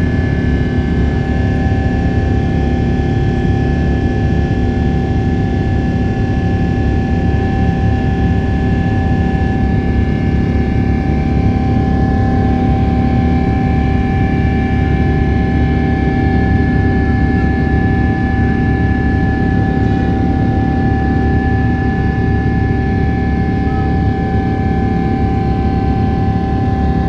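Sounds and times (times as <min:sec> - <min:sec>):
jet engines rumbling and whining: 0:00.0 - 0:27.0.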